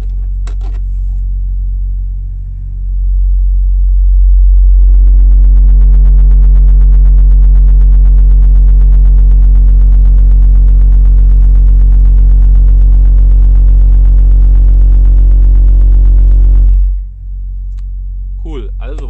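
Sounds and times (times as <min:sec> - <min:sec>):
subwoofer low test tone: 0:00.0 - 0:19.0.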